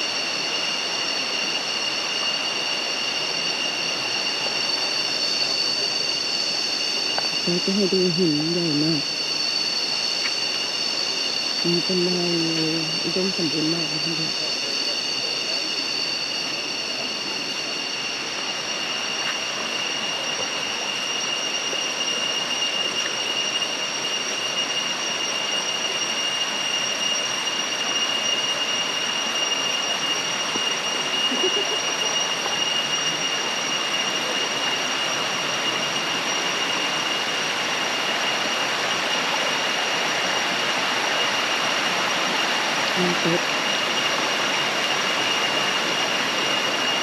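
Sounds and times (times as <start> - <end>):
high-pitched insect drone: 0.0 - 47.0.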